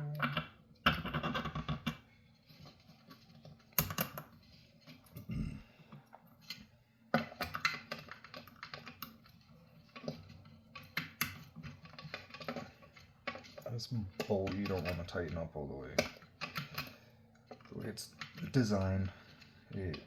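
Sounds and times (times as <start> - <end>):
plastic and metal parts clicking: 0.0 - 5.3, 6.0 - 20.0.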